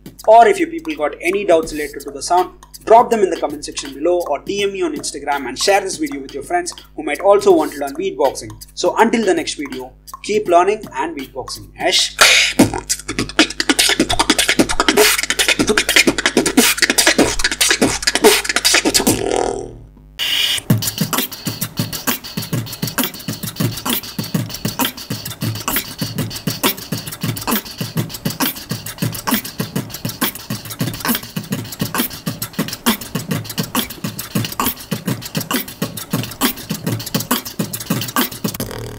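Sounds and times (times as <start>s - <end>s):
human beatboxing: 0.0s - 38.9s.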